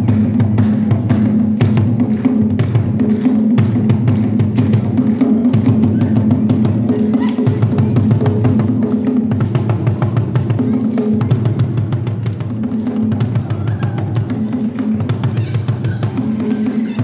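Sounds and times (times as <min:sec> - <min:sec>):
fast djembe drumming: 0:00.0 - 0:17.0.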